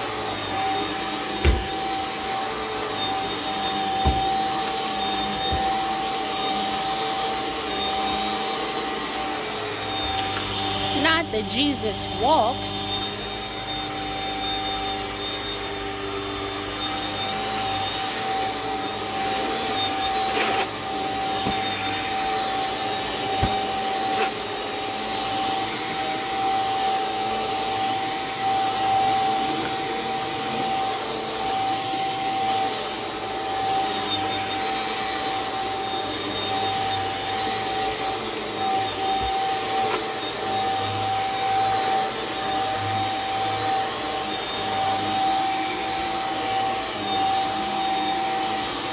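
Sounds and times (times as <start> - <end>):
vacuum cleaner running on carpet: 0.0 - 48.9.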